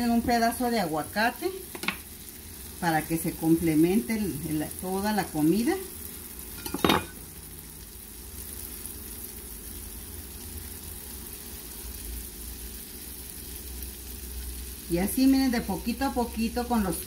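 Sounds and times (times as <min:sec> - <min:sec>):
cheese sizzling in a frying pan: 0:00.0 - 0:17.0.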